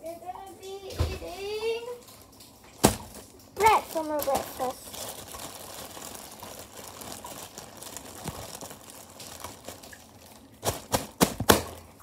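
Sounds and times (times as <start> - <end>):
plastic bag crinkling: 2.1 - 12.0.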